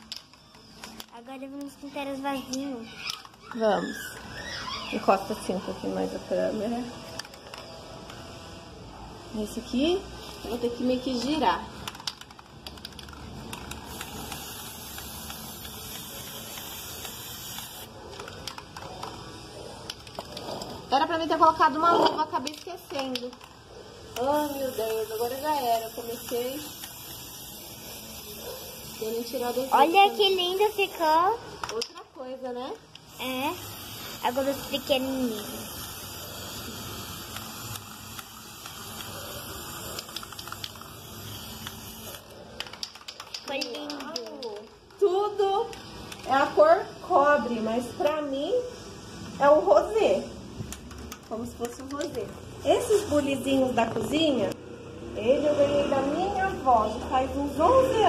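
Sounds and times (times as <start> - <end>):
spray paint can hissing: 0.0 - 8.4, 10.2 - 48.3.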